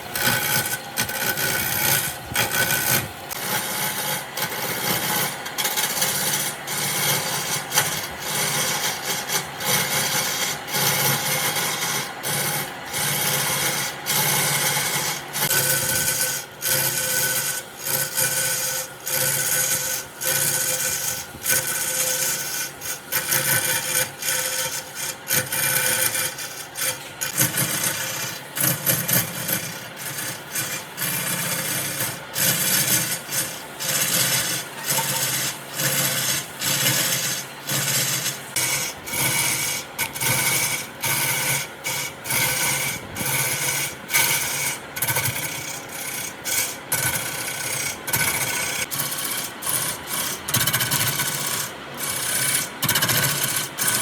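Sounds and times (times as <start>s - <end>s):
wood being rasped by hand: 0.0s - 54.0s.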